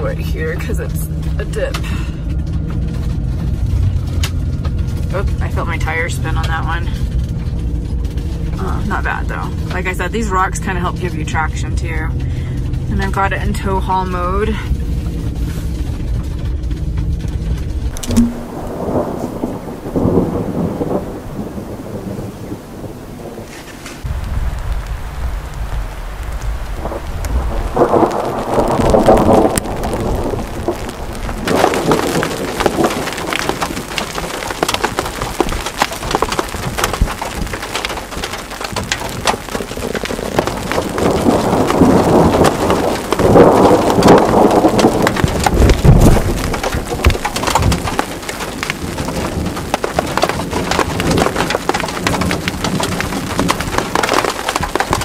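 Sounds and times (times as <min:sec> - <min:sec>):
rain patter: 0:00.0 - 0:55.0
thunder rolling: 0:00.0 - 0:55.0.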